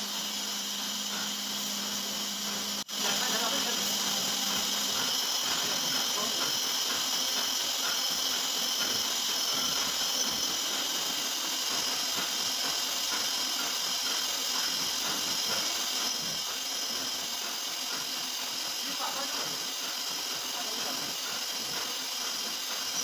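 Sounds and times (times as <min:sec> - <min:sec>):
milling machine spindle whine: 0:00.0 - 0:23.0.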